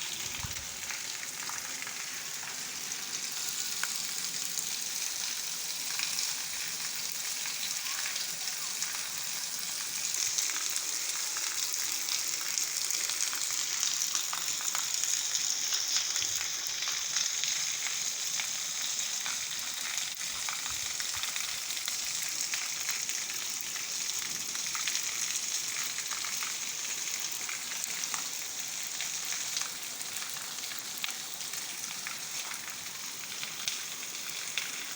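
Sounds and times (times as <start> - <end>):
steady rain patter: 0.0 - 34.9.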